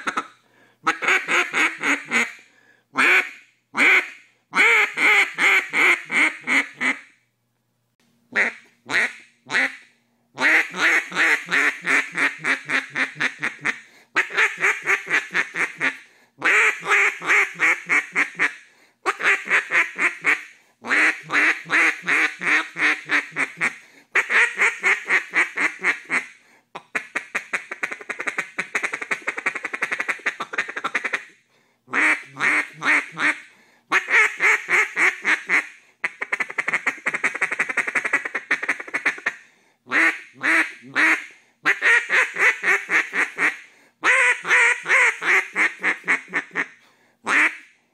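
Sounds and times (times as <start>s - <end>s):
duck call quacking: 0.0s - 7.1s, 8.3s - 47.7s.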